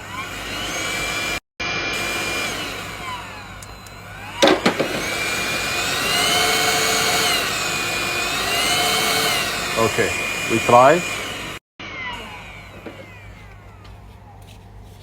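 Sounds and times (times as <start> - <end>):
handheld vacuum motor whining: 0.0 - 14.5.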